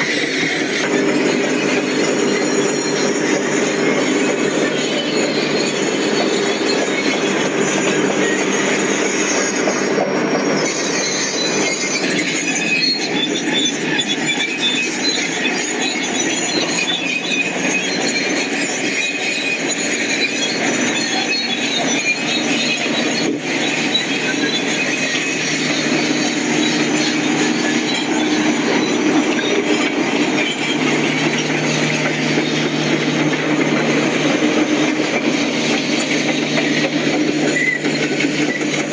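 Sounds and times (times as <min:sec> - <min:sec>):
bulldozer engine running: 0:00.0 - 0:38.9
crawler tracks squealing and clanking: 0:00.0 - 0:38.9.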